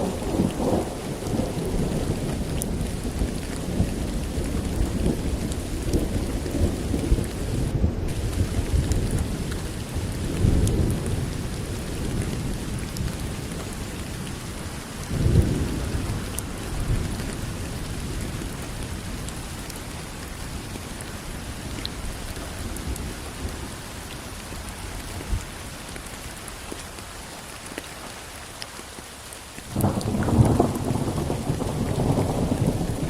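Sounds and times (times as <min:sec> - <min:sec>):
low thunder rumbles: 0:00.0 - 0:25.6, 0:29.7 - 0:33.0
steady rain: 0:00.0 - 0:33.0.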